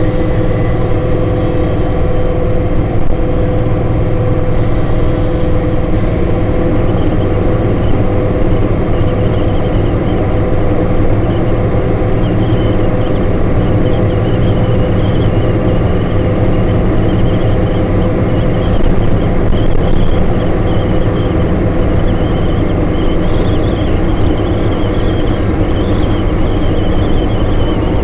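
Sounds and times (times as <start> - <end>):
diesel engine droning: 0.0 - 28.0
vehicle whine: 0.0 - 28.0.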